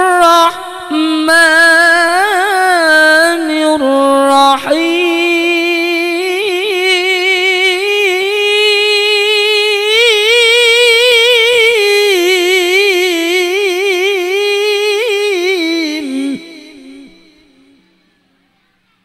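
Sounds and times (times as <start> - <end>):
man reciting in long melismatic note: 0.0 - 18.4.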